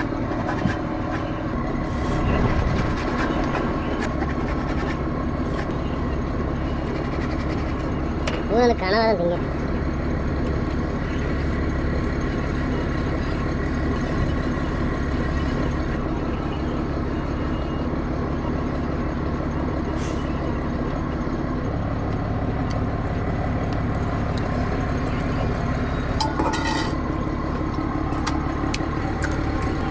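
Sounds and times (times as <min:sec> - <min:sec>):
boat engine droning: 0:00.0 - 0:29.9.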